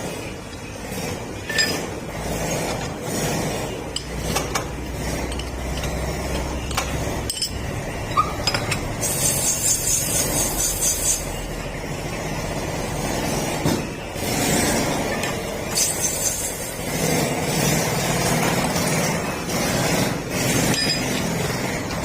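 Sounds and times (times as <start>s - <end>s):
workshop machinery running: 0.0s - 22.0s.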